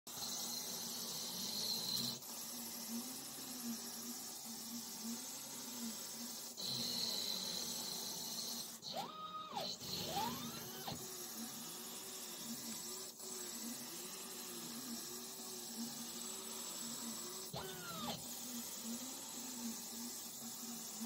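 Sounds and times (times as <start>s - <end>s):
stepper motors whining: 0.1s - 21.0s.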